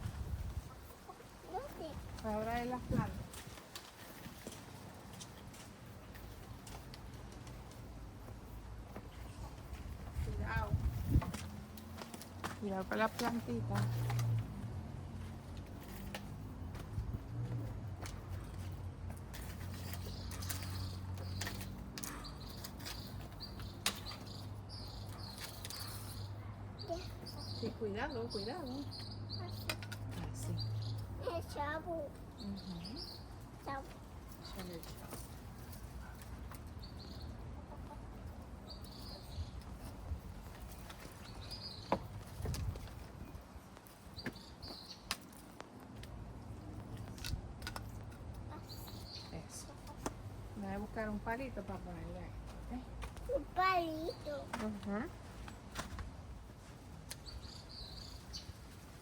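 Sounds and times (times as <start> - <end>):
clicks and scrapes of garden work: 0.0 - 50.4
low outdoor background: 0.0 - 59.0
small birds chirping: 0.2 - 56.0, 56.6 - 59.0.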